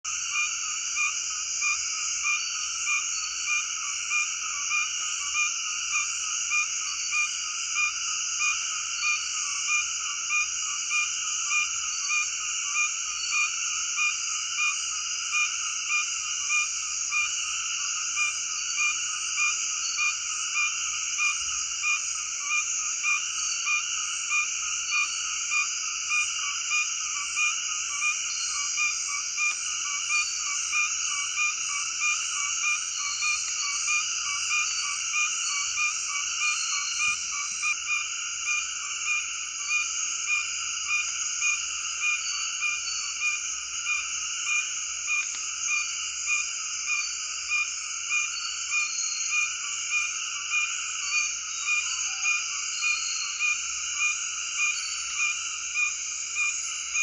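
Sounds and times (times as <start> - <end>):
high-pitched insect chorus: 0.0 - 57.0
frog calling: 0.1 - 57.0.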